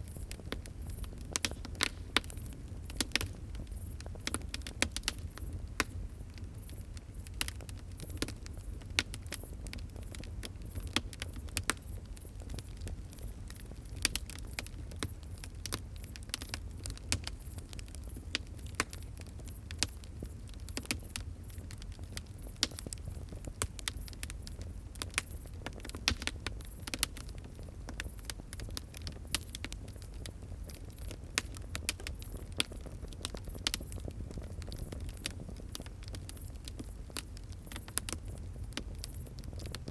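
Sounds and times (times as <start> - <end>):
low rumble of burning: 0.0 - 39.9
wood fire crackling: 0.0 - 39.9
fire popping and snapping: 0.1 - 39.9.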